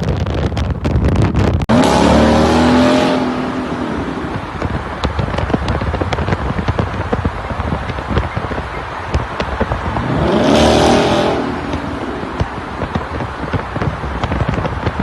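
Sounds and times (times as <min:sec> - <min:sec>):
car exhaust crackling and burbling: 0:00.0 - 0:15.0.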